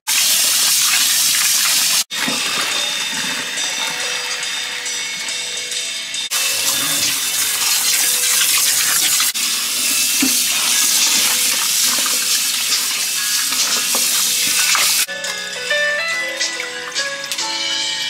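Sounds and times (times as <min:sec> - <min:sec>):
tap water running into pot: 0:00.1 - 0:05.3, 0:06.3 - 0:17.6.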